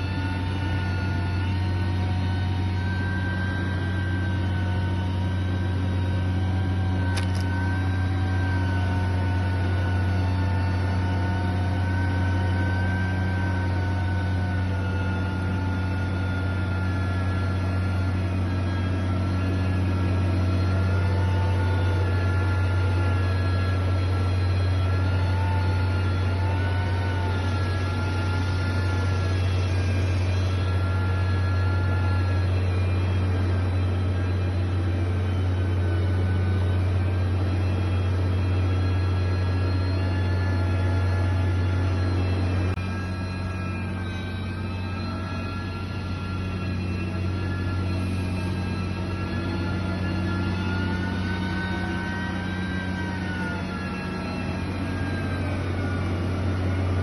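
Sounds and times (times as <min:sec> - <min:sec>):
heavy machine engine droning: 0:00.0 - 0:57.0.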